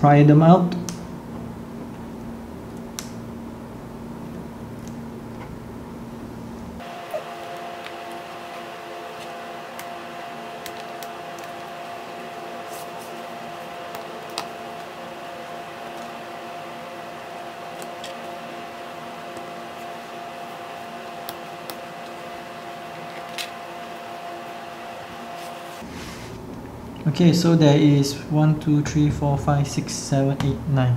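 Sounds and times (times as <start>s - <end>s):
steady hum with fixed tone: 0.0s - 30.9s.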